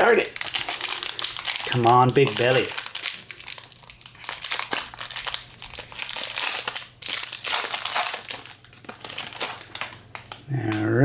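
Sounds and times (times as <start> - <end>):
plastic wrapper crinkling: 0.0 - 10.5.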